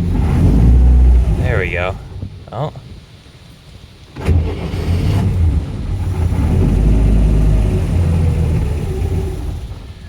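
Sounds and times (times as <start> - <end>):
boat engine starting and rumbling: 0.0 - 10.0.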